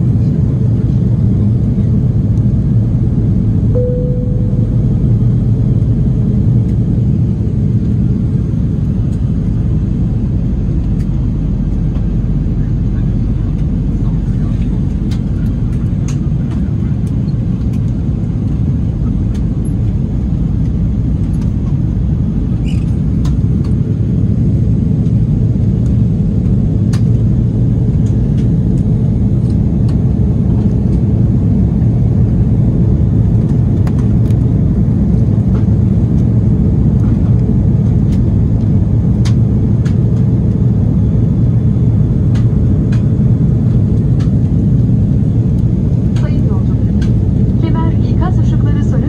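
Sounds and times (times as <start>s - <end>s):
airplane cabin rumble: 0.0s - 49.0s.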